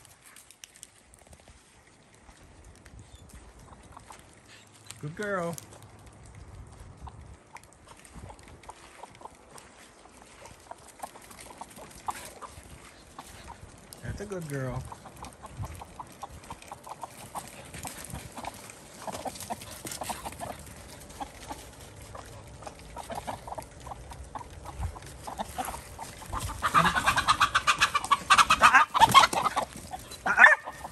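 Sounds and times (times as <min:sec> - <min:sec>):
hens clucking and cackling: 0:03.2 - 0:05.5, 0:06.6 - 0:30.9.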